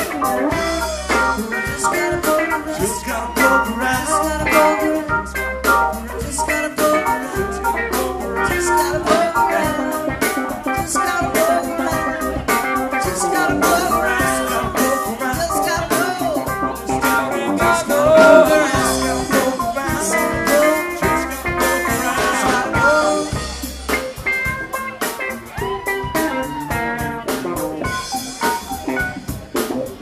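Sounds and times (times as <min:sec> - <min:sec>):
electric guitar lead: 0:00.0 - 0:30.0
rock band playing: 0:00.0 - 0:30.0.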